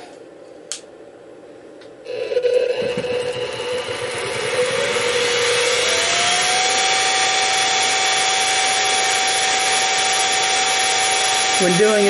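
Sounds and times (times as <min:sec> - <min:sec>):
mill spindle motor whine: 0:02.1 - 0:12.0.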